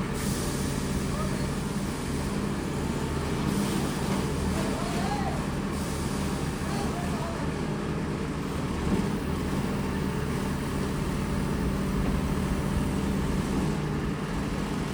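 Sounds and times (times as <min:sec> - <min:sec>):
heavy machine engine running: 0:00.0 - 0:14.9.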